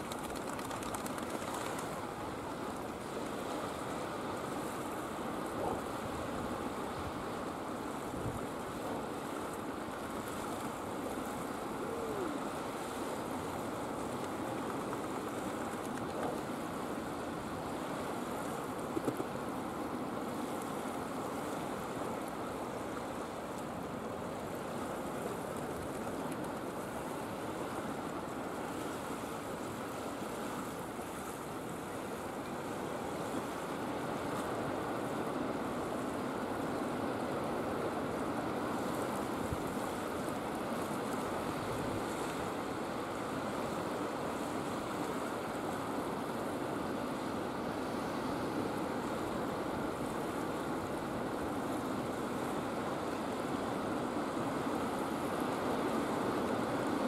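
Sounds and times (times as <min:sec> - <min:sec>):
waves and rippling water: 0:00.0 - 0:57.0.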